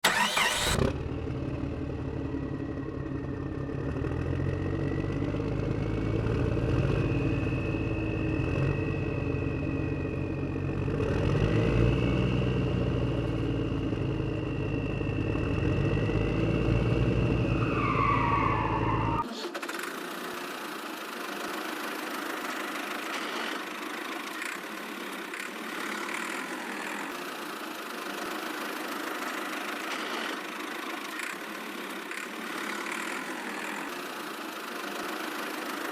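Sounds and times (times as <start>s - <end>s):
engine rumble with whine: 0.0s - 35.9s.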